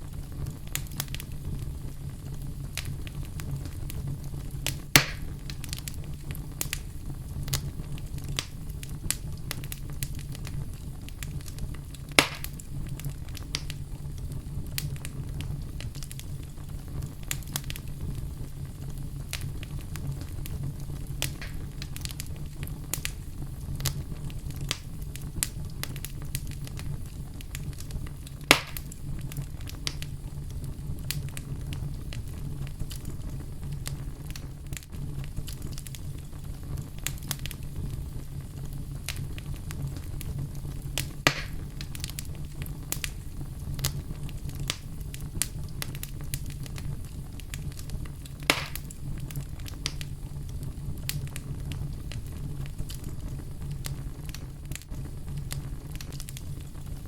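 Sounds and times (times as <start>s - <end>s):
fire crackling in fireplace: 0.0s - 57.0s
loud fire pops: 0.0s - 57.0s.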